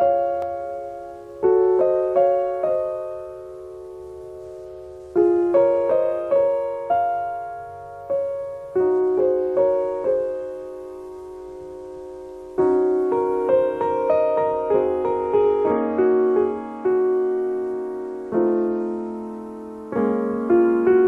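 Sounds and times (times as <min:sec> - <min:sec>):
slow solo piano: 0:00.0 - 0:21.0.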